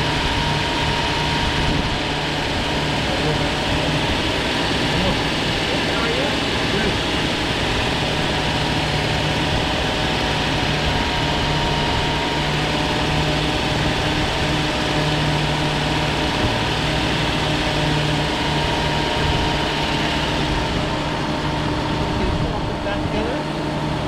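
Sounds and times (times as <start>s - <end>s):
minivan engine idling: 0.0s - 24.0s.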